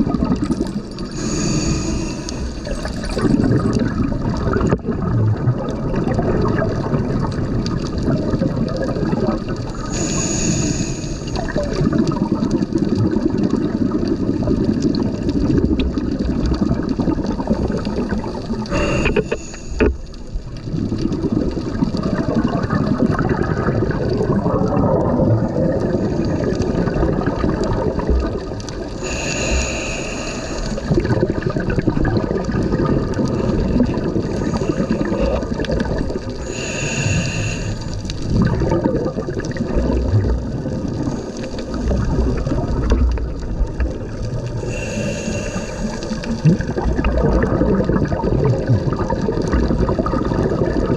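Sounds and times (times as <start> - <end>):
churning water gurgling: 0.0 - 50.9
hissing bubble bursts: 0.0 - 50.9.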